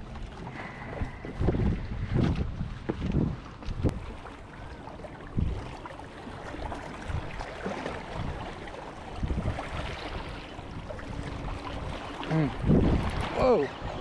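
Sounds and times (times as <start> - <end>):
wind buffeting microphone: 0.0 - 4.4, 5.0 - 5.8, 6.4 - 14.0
open water wash: 0.0 - 14.0.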